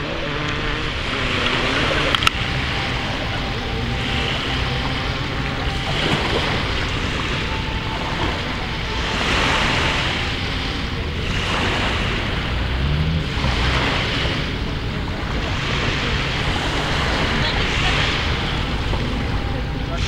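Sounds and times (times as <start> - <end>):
distant motocross engines buzzing: 0.0 - 20.0
wind buffeting microphone: 0.0 - 20.0.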